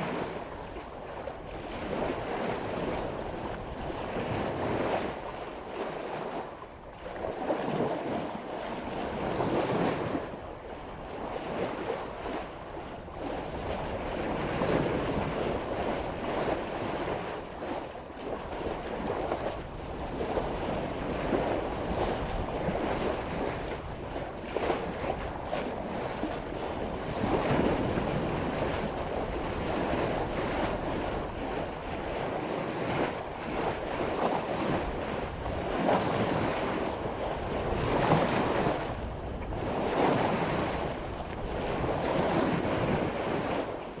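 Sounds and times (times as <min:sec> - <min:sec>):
water rushing along boat hull: 0:00.0 - 0:44.0
wind buffeting microphone: 0:00.0 - 0:44.0.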